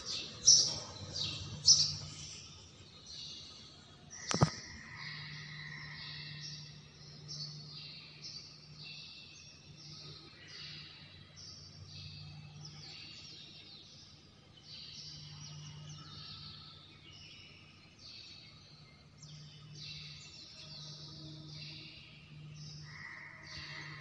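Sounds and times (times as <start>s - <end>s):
faint small birds chirping: 0.0s - 24.0s
steady low hum: 0.0s - 24.0s.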